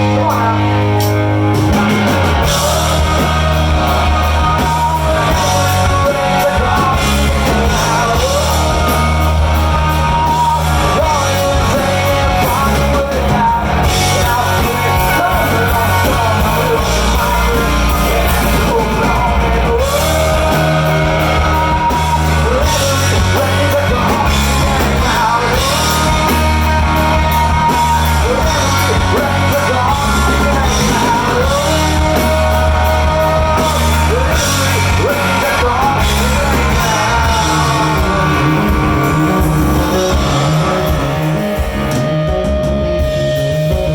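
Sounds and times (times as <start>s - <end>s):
rock band playing: 0.0s - 43.9s
singer's lead vocal: 0.0s - 43.9s.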